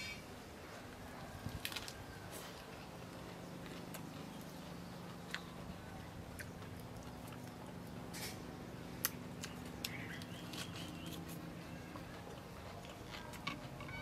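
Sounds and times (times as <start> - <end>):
chewing: 1.6 - 14.0.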